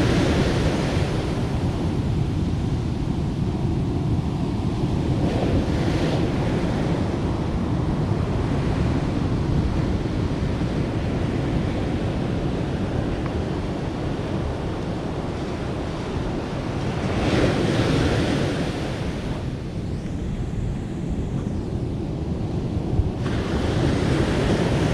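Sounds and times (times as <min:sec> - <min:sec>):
sea waves breaking on beach: 0:00.0 - 0:19.8, 0:22.4 - 0:24.9
wind buffeting microphone: 0:00.0 - 0:24.9.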